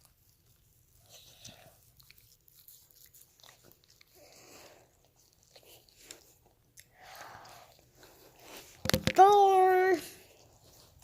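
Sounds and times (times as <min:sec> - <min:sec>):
dog chewing: 0:00.0 - 0:08.8.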